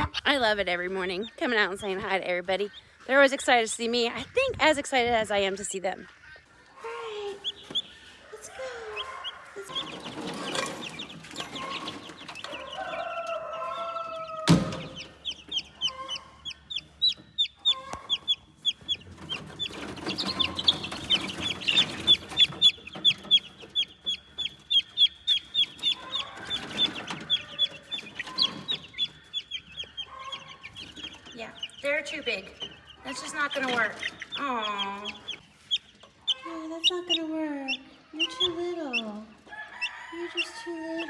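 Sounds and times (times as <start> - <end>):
baby chick peeping: 0.0 - 41.0
chickens clucking: 0.0 - 41.0.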